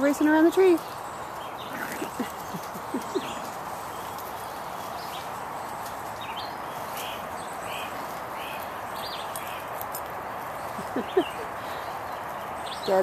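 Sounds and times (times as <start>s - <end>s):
small bird chirping: 0.5s - 13.0s.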